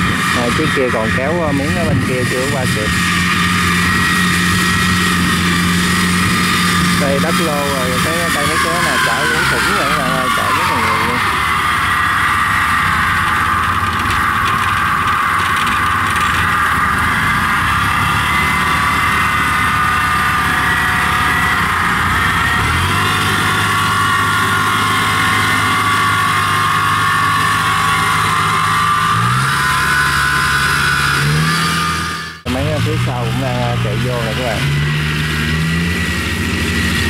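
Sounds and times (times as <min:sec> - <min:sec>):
drive whine: 0:00.0 - 0:37.0
tracked carrier engine running: 0:00.0 - 0:37.0.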